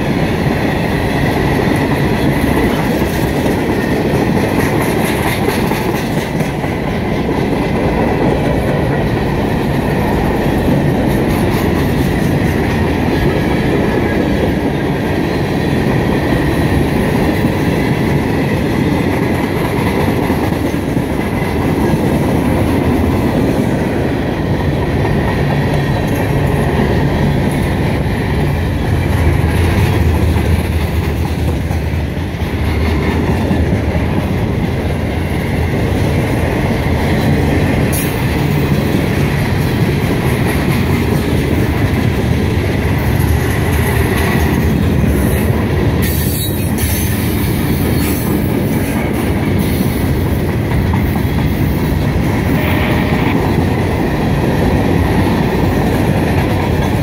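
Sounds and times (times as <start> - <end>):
train cars rumbling on rails: 0.0 - 57.0.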